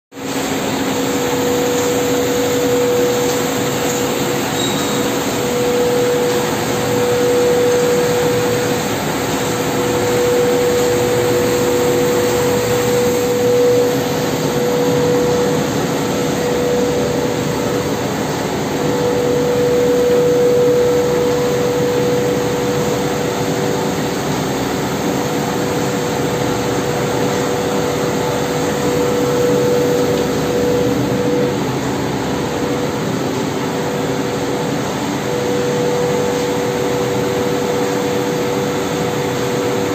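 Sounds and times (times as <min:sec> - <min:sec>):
constant machine hum: 0:00.1 - 0:39.9
printing press whirring: 0:00.1 - 0:39.9.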